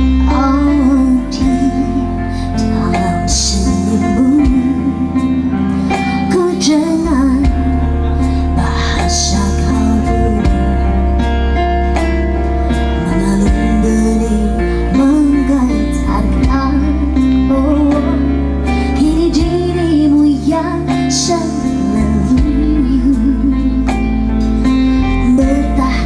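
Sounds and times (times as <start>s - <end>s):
guitar: 0.0s - 26.0s
low bass notes: 0.0s - 26.0s
woman singing into microphone: 0.0s - 26.0s.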